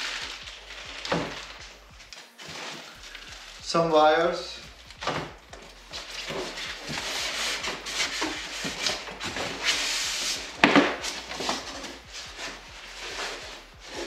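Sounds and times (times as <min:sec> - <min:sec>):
rustling handling: 0:00.0 - 0:14.0
foam scraping against cardboard: 0:02.4 - 0:14.0.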